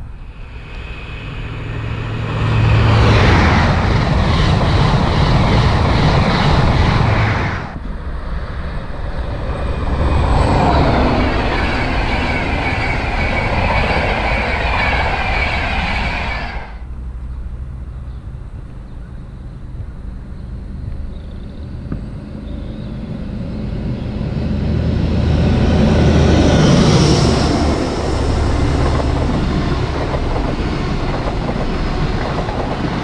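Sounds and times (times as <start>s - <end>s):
fast train passing: 0.0s - 17.3s, 22.8s - 33.0s.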